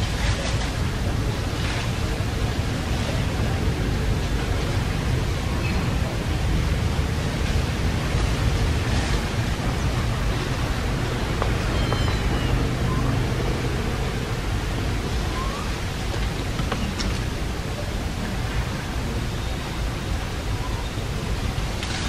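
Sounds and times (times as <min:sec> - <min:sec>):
low rushing rumble: 0:00.0 - 0:21.9.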